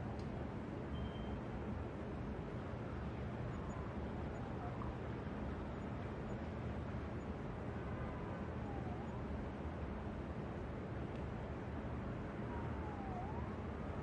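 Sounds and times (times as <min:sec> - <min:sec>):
distant city traffic rumble: 0:00.0 - 0:14.0.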